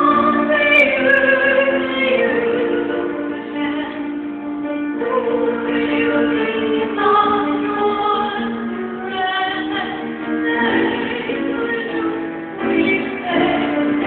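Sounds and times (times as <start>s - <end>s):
grand piano: 0.0s - 14.0s.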